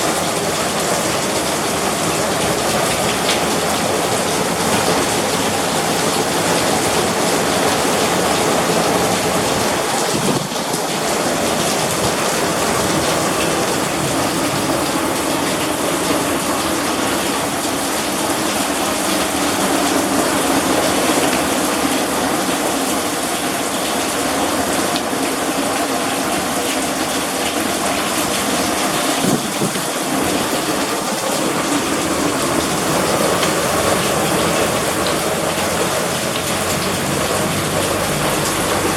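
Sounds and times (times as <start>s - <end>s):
heavy rain and hail: 0.0s - 38.9s.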